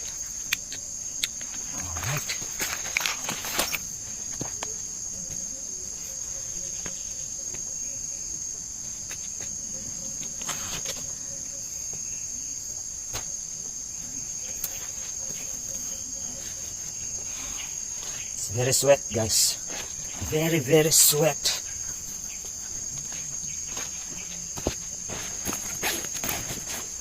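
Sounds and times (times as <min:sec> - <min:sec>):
insects chorus: 0:00.0 - 0:27.0.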